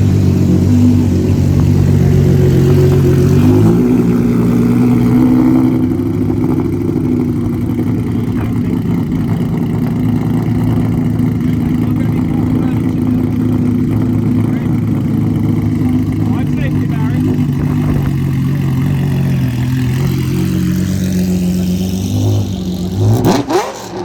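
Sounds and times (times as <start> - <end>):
loud sports car engine running: 0.0 - 24.0.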